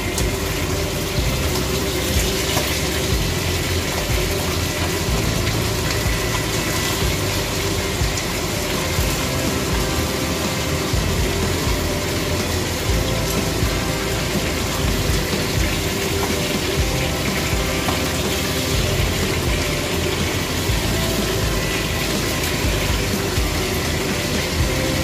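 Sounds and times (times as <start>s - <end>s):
fish frying in oil: 0.0s - 25.0s.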